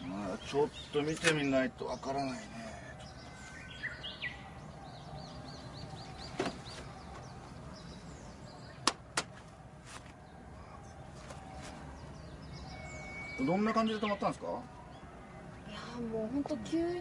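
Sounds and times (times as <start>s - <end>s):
bird chirping: 0.0s - 17.0s
outdoor background noise: 0.0s - 17.0s.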